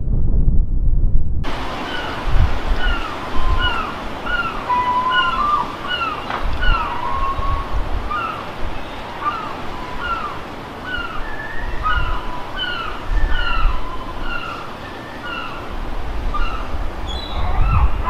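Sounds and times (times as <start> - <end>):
wind rumbling on microphone: 0.0 - 18.0
birds chirping: 1.5 - 18.0.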